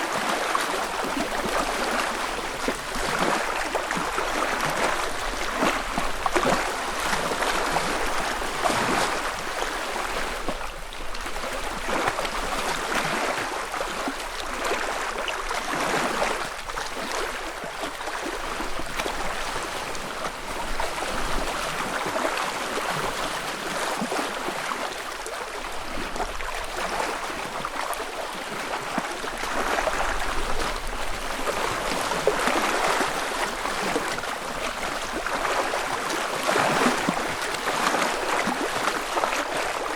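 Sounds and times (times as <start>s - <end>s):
wavelets lapping on lakeshore: 0.0s - 39.9s.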